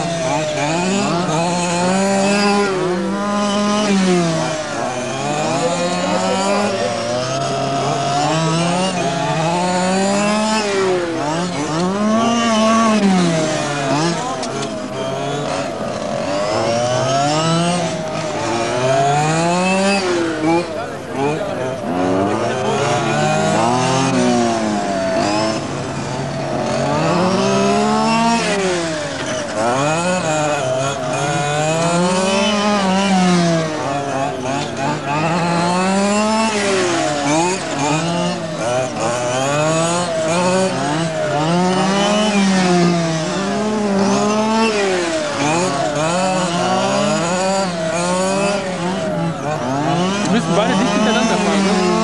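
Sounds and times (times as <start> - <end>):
model car engines revving: 0.0 - 52.0.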